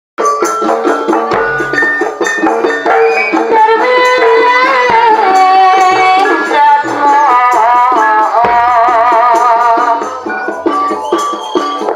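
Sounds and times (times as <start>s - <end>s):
drum strikes: 0.2s - 11.9s
held bending melody line: 0.2s - 11.9s
pitched struck notes: 0.2s - 11.9s.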